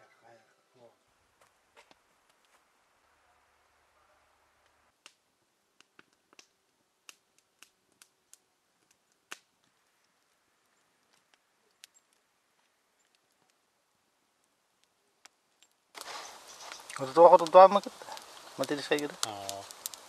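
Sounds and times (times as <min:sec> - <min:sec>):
campfire crackling: 0:00.8 - 0:20.0.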